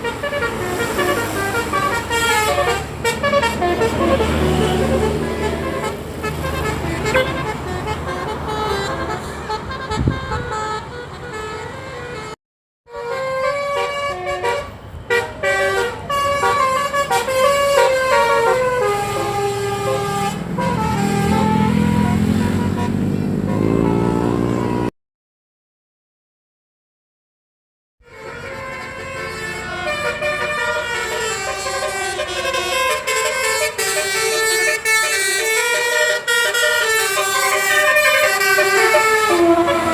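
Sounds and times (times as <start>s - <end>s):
bus engine: 0.0s - 24.9s, 28.1s - 39.9s
multi-tone bus horn melody: 0.0s - 24.9s, 28.0s - 39.9s
traffic noise: 0.0s - 24.9s, 28.0s - 39.9s.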